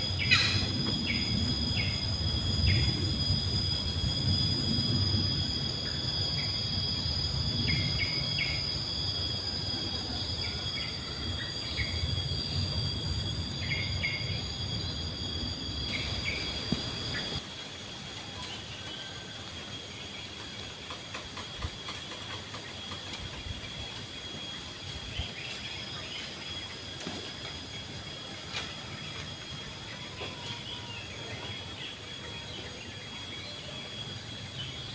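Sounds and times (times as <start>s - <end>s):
insect chirps: 0.0s - 34.9s
insects droning: 0.0s - 34.9s.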